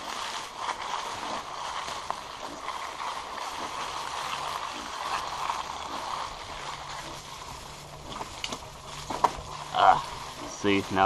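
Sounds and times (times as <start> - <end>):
bicycle tyres rolling through leaves: 0.0 - 11.0.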